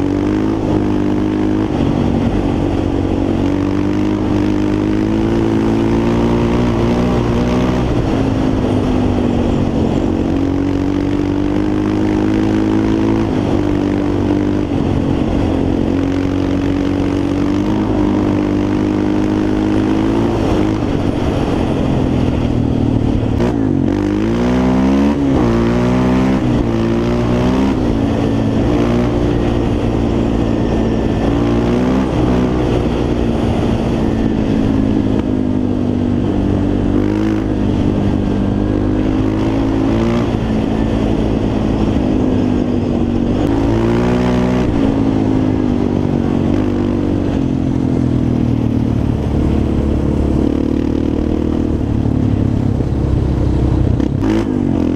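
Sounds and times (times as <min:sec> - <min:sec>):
quad bike engine revving: 0:00.0 - 0:54.9.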